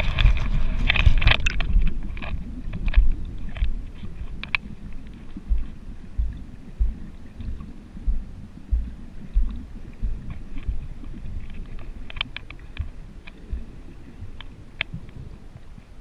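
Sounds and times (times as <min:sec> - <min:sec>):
dull thuds of water: 0:00.0 - 0:15.3
muffled underwater rumble: 0:00.0 - 0:16.0.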